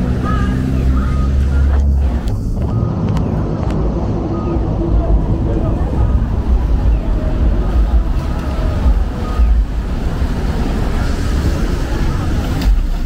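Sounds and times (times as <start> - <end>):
city street traffic: 0.0 - 13.0
wind buffeting microphone: 0.0 - 13.0.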